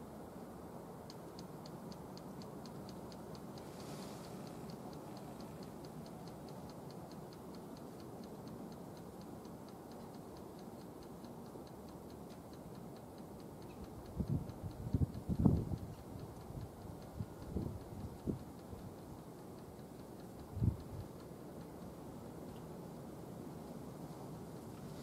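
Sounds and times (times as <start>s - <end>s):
rapid ticking: 0.6s - 25.0s.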